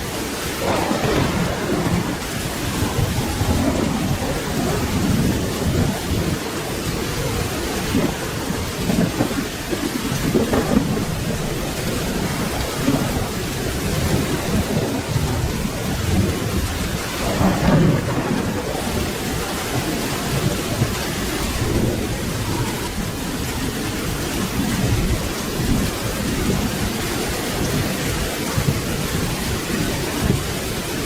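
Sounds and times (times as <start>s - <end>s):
rolling thunder: 0.0s - 31.0s
steady rain: 0.0s - 31.0s.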